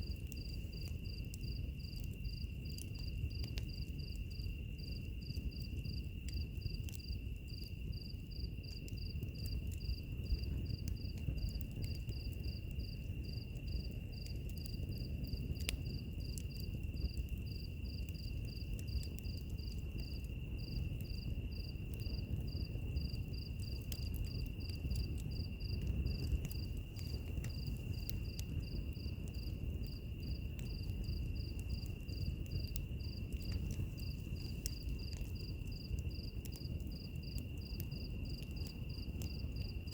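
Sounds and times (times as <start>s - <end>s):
crickets chirping: 0.0s - 39.9s
wood fire crackling: 0.0s - 39.9s.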